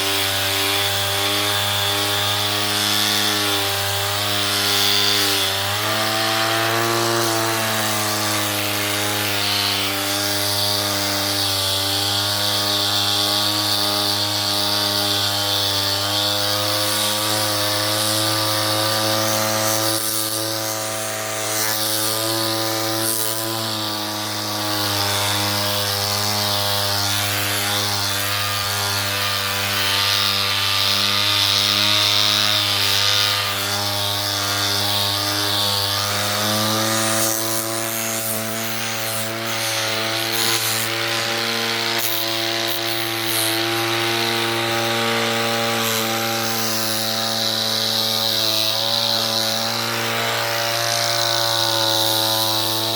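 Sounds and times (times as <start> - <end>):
angle grinder motor whine: 0.0 - 52.9
sandpaper scraping wood: 0.0 - 52.9.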